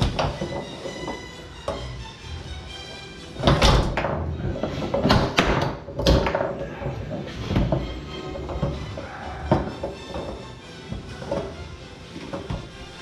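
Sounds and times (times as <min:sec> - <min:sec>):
foosball knocks and clacks: 0:00.0 - 0:02.0, 0:03.4 - 0:13.0.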